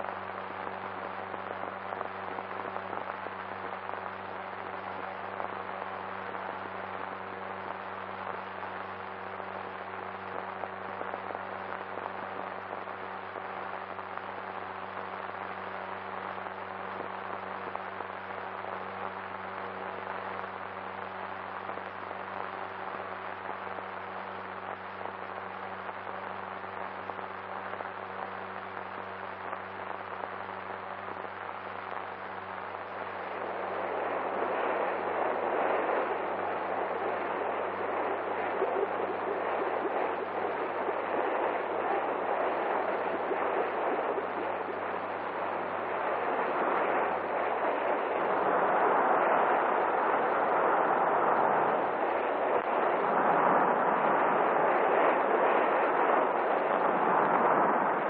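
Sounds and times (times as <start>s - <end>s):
film soundtrack crackle and hiss: 0.0s - 58.0s.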